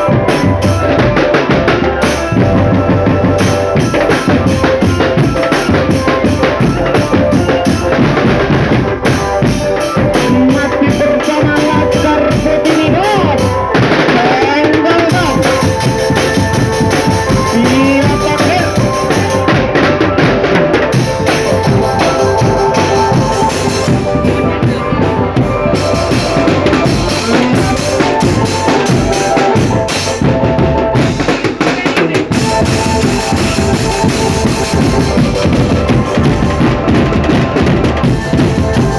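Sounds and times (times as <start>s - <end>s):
held melody notes: 0.0s - 38.9s
snare and bass drums beating: 0.0s - 38.9s.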